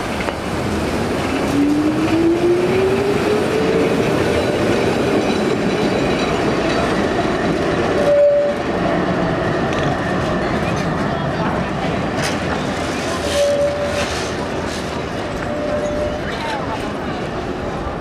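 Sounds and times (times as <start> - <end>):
wheels rumbling on rails: 0.0 - 18.0.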